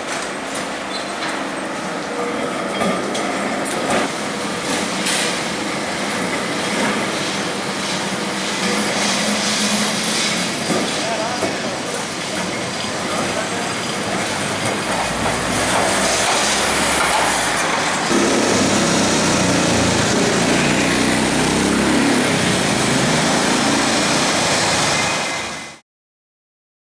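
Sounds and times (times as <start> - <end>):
tram motor rumble: 0.0 - 25.8
tram wheels on rails: 0.0 - 25.8.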